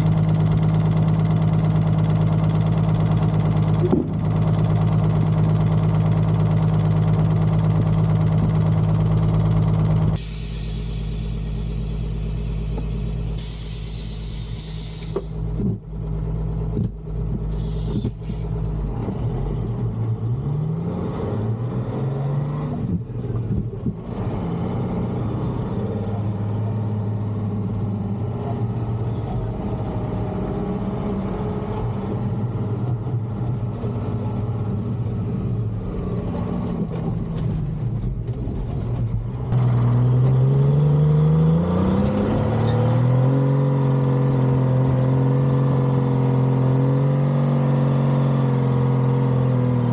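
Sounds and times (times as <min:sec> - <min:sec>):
diesel truck engine under load: 0:00.0 - 0:49.9.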